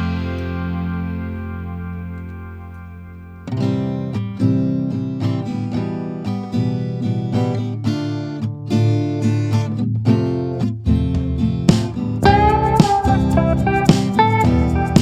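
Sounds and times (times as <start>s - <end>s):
acoustic guitar picked and strummed: 0.0s - 15.0s.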